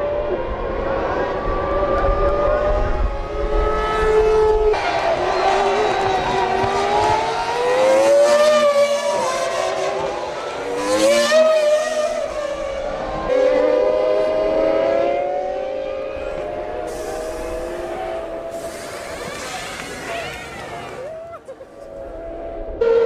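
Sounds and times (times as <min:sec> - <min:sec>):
racing car engines passing: 0:00.0 - 0:23.0.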